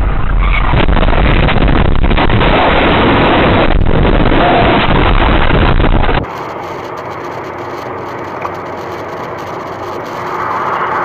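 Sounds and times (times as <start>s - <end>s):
car driving on highway: 0.0s - 11.0s
loud rough noise: 0.0s - 11.0s.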